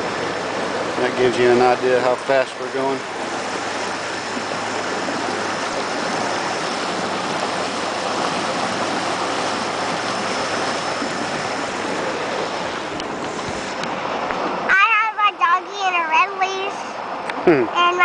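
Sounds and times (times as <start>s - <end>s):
water rushing along boat hull: 0.0s - 18.0s.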